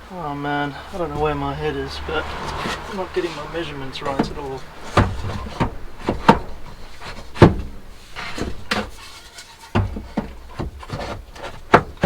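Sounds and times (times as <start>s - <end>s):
board scraping: 0.8s - 12.0s.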